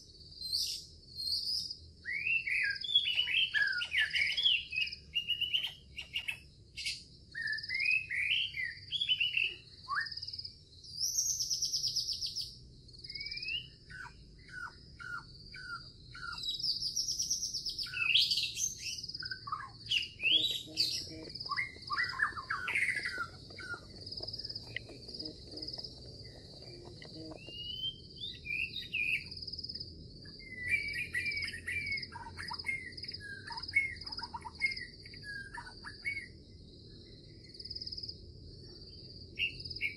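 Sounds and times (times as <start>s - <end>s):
high insect trill: 0.0s - 39.9s
birds chirping and whistling: 0.4s - 38.0s, 38.6s - 39.9s.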